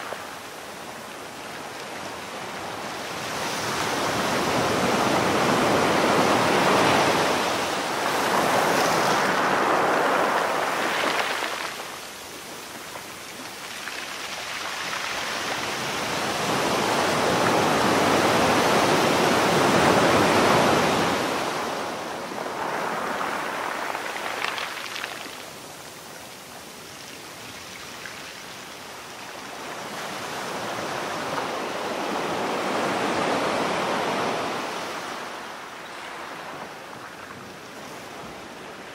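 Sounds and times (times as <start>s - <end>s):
ocean surf on beach: 0.0s - 38.9s.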